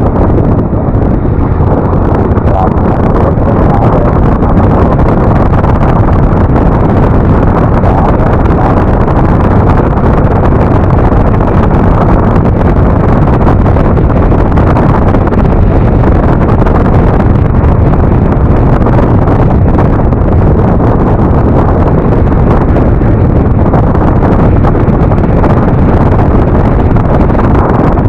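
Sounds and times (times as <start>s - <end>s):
road noise: 0.0s - 28.0s
wind rush on microphone: 0.0s - 28.0s.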